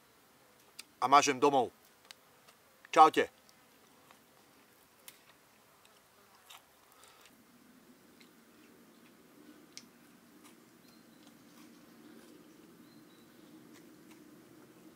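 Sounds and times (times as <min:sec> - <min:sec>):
faint low hum: 0:01.7 - 0:14.9.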